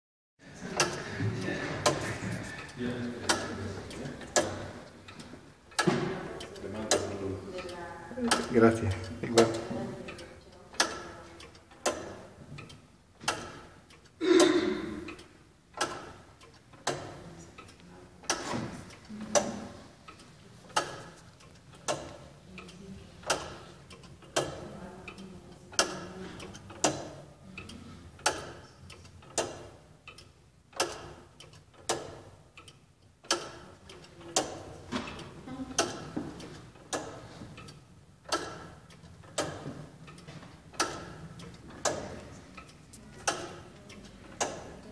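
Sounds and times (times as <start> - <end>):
clock ticking: 0.4 - 44.9.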